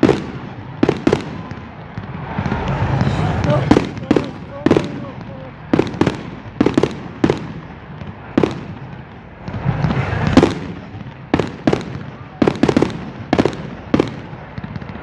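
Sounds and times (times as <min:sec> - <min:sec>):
fireworks bursting with sharp bangs: 0:00.0 - 0:15.0
rushing swell of firework: 0:00.0 - 0:15.0.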